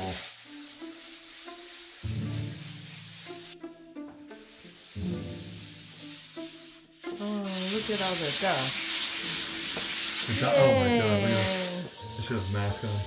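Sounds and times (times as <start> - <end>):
sanding block rubbing: 0.0 - 3.6, 4.3 - 12.7
soft background music: 0.0 - 13.0.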